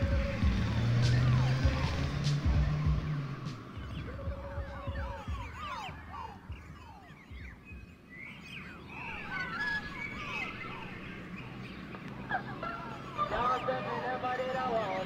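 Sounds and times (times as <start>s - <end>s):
chirping pitch glides: 0.0s - 15.0s.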